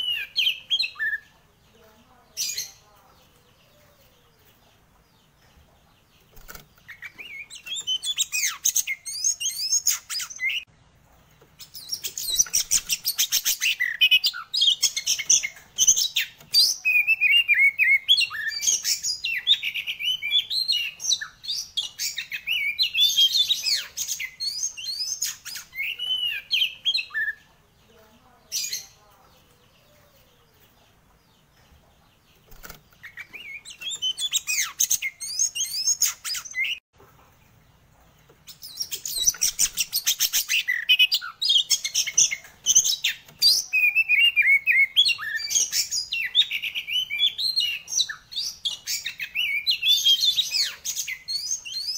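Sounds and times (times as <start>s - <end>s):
bird singing varied song: 0.0s - 51.9s.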